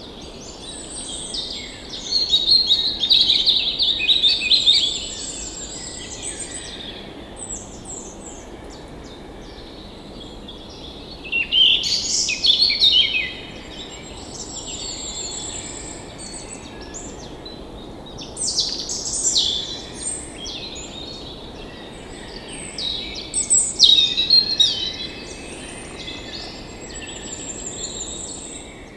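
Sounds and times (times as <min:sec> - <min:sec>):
songbirds singing and chirping: 0:00.0 - 0:28.9.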